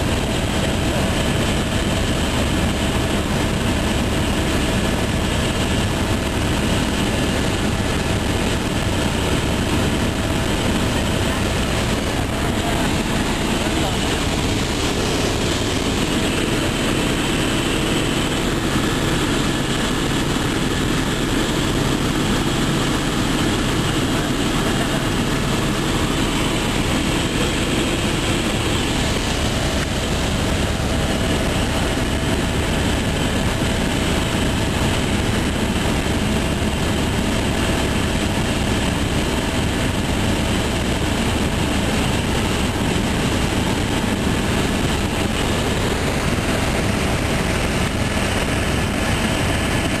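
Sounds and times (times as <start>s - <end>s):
helicopter engine and rotor drone: 0.0s - 50.0s.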